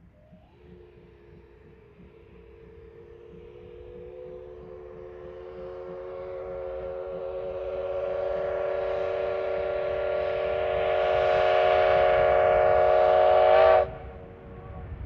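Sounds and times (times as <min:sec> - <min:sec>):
steam locomotive whistle: 0:00.3 - 0:15.0.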